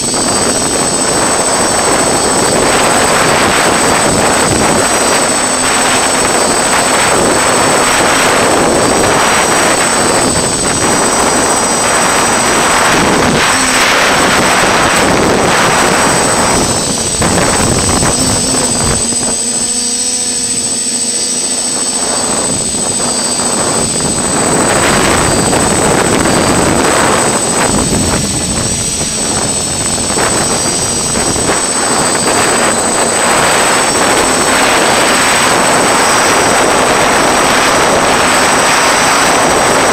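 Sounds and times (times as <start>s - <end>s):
drone motors and propellers: 0.0s - 39.9s
thin high whine: 0.0s - 39.9s.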